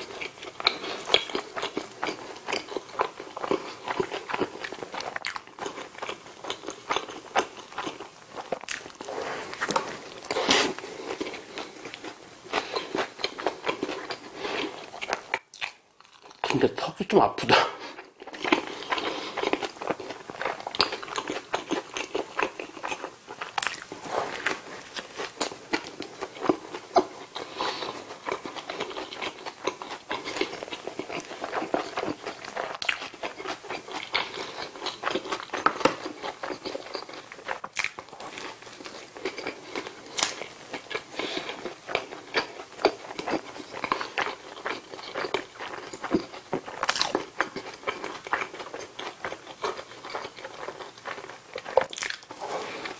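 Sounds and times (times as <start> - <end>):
close-miked chewing of burger: 0.0 - 52.9.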